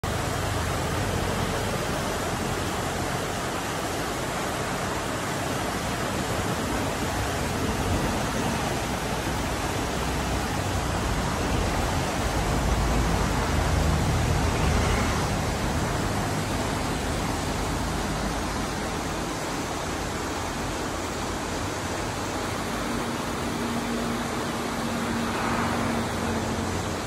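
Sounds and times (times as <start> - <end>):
rushing stream water: 0.0 - 27.0.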